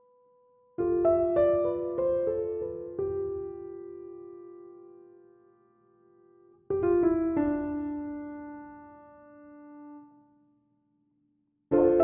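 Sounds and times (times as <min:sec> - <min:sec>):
piano music: 0:00.8 - 0:10.2, 0:11.7 - 0:12.0.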